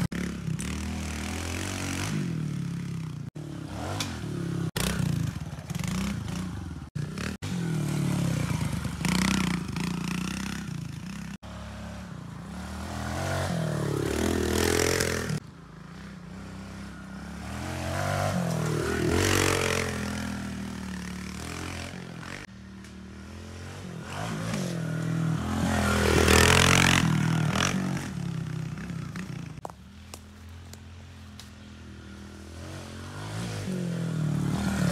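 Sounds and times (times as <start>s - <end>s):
dirt bike engine revving: 0.0s - 29.6s, 31.7s - 34.9s.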